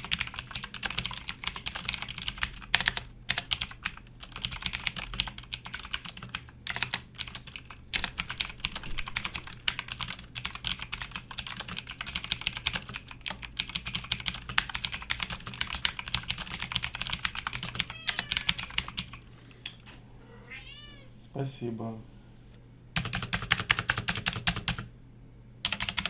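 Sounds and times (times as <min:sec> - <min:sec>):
mechanical keyboard typing: 0:00.0 - 0:19.8, 0:23.0 - 0:24.9, 0:25.6 - 0:26.0.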